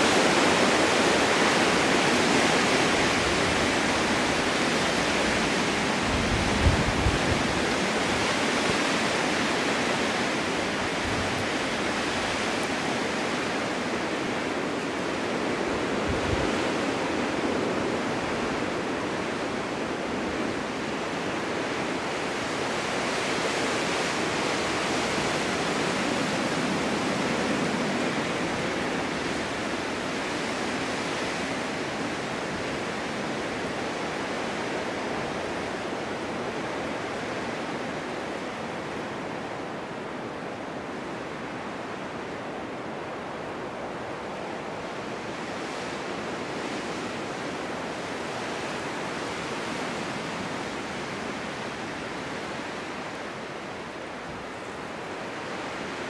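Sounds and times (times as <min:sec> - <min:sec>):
wind blowing snow: 0:00.0 - 0:56.0
wind gusts buffeting microphone: 0:00.0 - 0:56.0.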